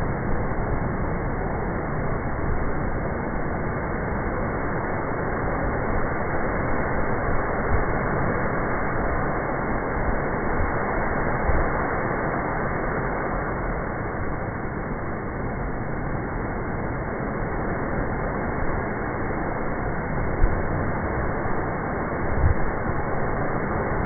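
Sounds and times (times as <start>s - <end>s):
low rumble of surf: 0.0s - 24.0s.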